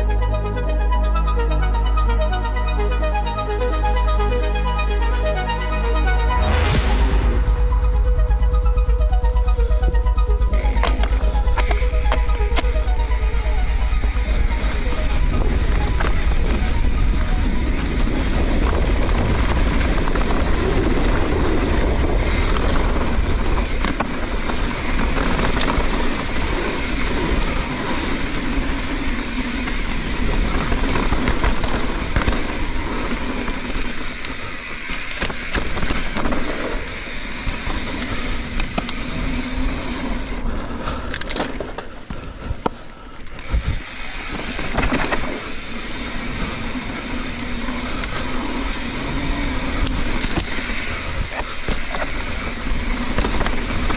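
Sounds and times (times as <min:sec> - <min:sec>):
bike rattling and clicking: 0:10.6 - 0:53.9.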